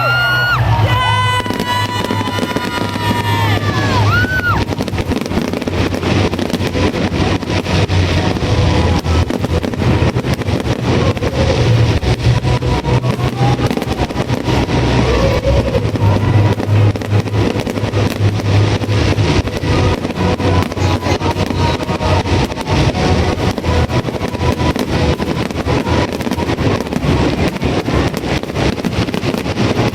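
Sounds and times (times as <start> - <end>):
fireworks crackling and popping: 0.0 - 29.9
low rumble: 0.0 - 29.9.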